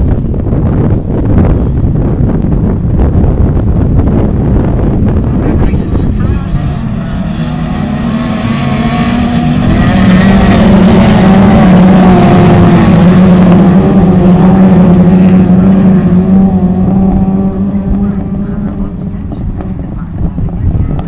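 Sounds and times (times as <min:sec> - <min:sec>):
racing car engines at high revs: 0:04.1 - 0:21.0.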